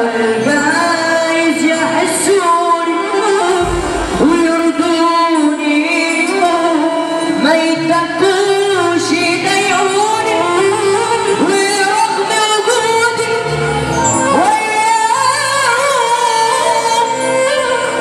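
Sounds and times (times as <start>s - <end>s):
amplified instrumental backing: 0.0s - 18.0s
man singing through a microphone: 0.0s - 18.0s.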